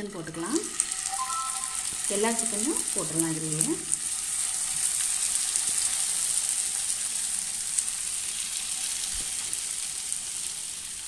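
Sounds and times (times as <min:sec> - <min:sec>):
chicken sizzling in butter: 0:00.0 - 0:11.0.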